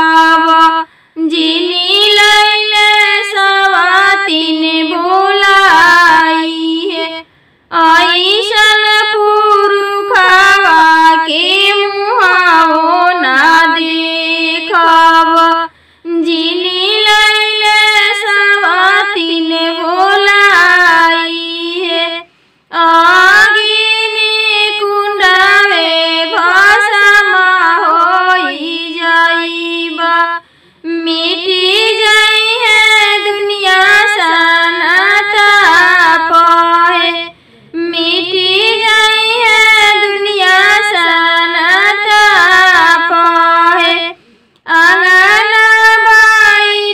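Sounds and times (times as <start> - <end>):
woman singing unaccompanied: 0.0 - 46.9.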